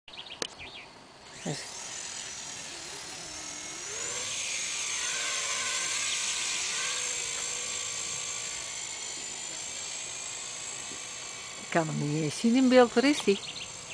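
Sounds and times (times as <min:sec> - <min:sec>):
rc helicopter motor whine: 0:01.2 - 0:13.9.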